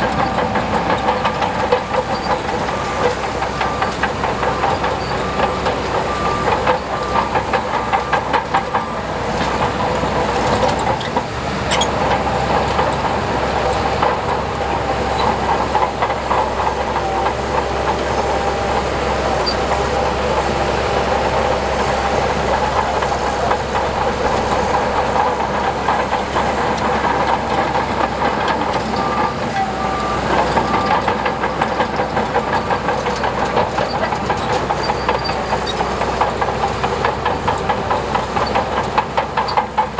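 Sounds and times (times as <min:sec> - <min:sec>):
diesel engine running: 0:00.0 - 0:39.9
steel crawler tracks clanking: 0:00.0 - 0:39.9.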